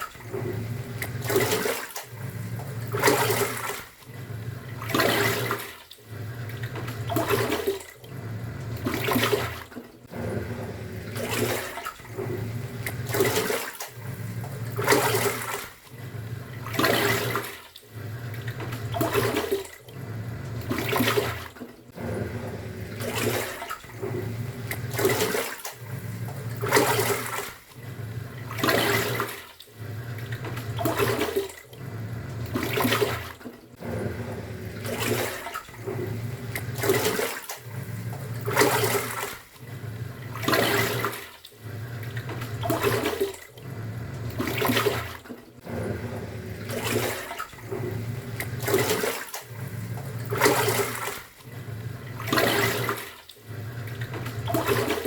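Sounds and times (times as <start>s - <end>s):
washing machine motor humming: 0.0s - 55.0s
water sloshing: 0.0s - 55.0s.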